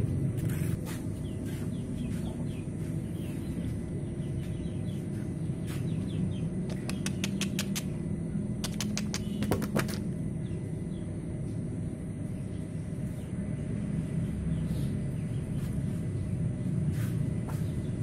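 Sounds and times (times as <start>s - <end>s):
steady low rumble: 0.0s - 18.0s
small birds chirping: 0.3s - 18.0s.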